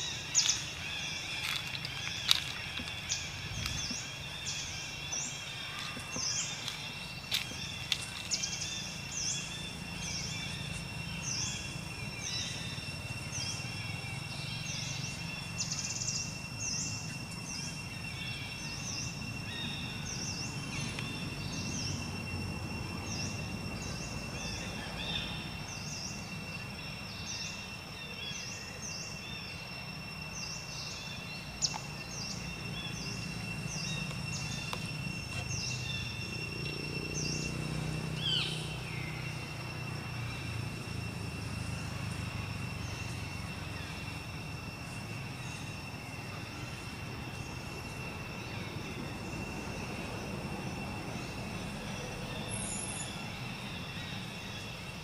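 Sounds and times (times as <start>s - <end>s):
birds chirping: 0.0s - 49.8s
high-pitched insect drone: 0.0s - 55.0s.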